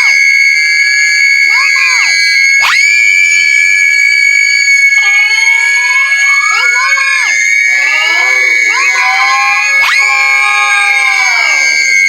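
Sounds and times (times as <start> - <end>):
loud high-pitched tone: 0.0 - 12.0
shrill screams: 0.0 - 12.0.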